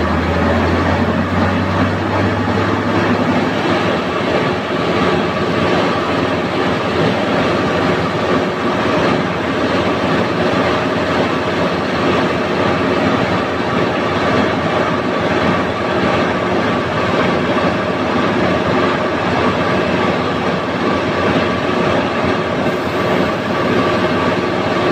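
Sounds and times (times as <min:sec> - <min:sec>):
crane engine running: 0:00.0 - 0:24.9.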